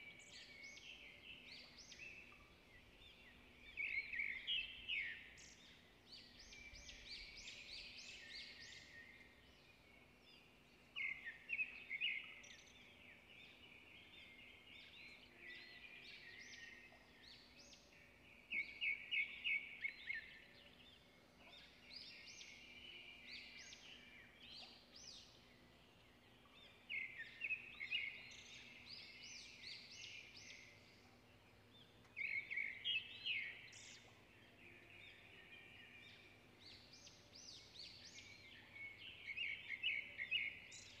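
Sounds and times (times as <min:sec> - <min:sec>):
birds chirping and trilling: 0:00.1 - 0:41.0.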